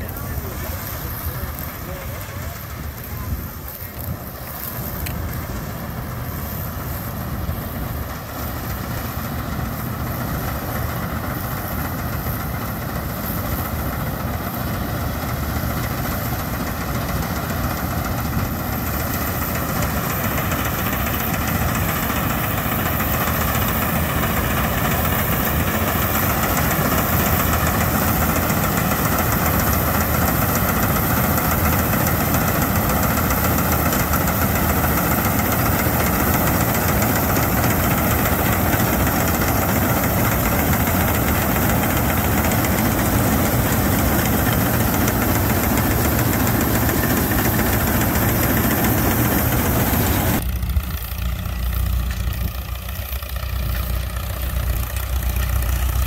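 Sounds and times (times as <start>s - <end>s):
combine harvester running: 0.0s - 56.0s
tractor engine rumble: 0.0s - 56.0s.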